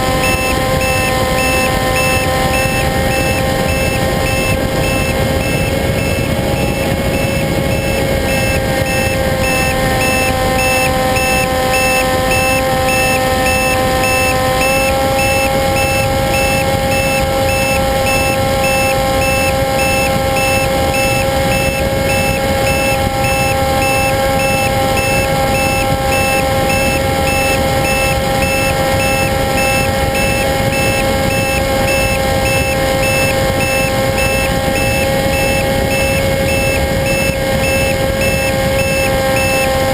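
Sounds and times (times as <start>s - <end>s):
model airplane motor high pitch: 0.0s - 39.9s
rushing airflow: 0.0s - 39.9s.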